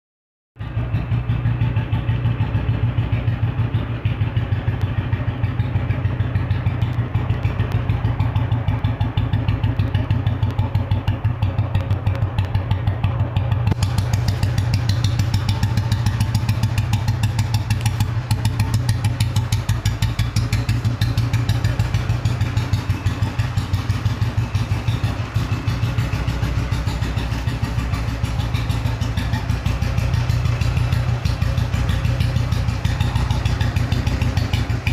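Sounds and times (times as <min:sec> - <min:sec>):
motorcycle engine thumping: 0:00.6 - 0:34.9.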